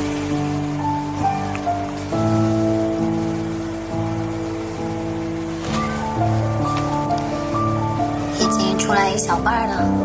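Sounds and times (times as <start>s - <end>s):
slow solo piano chords: 0.0s - 10.0s.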